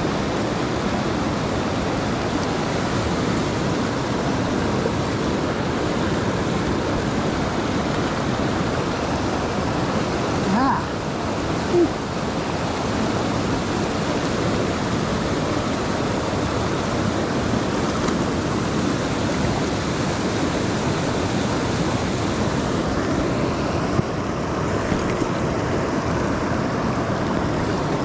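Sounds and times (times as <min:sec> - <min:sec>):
stream water flowing: 0:00.0 - 0:28.0.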